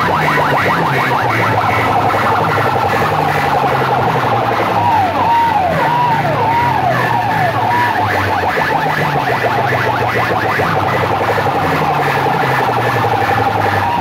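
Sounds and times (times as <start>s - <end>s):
electronic siren wailing: 0.0s - 14.0s.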